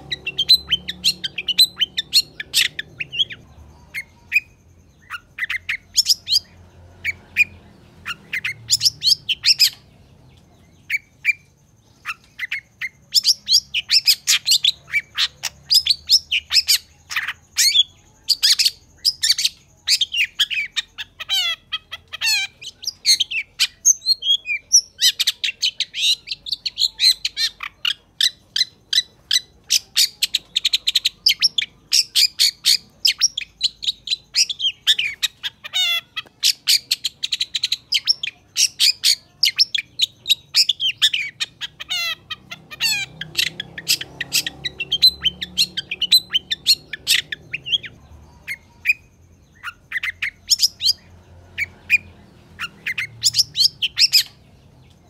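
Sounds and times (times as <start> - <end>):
bird singing sharp high chirps: 0.0 - 55.0.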